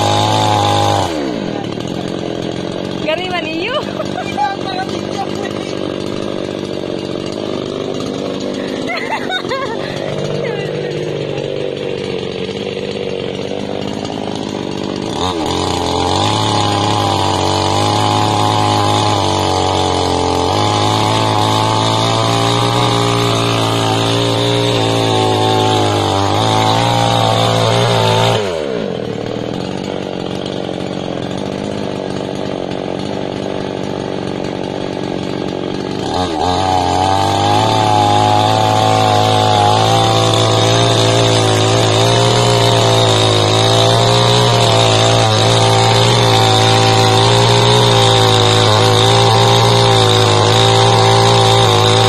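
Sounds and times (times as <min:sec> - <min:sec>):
chainsaw cutting log at full throttle: 0:00.0 - 0:52.0
chainsaw idling: 0:00.0 - 0:52.0.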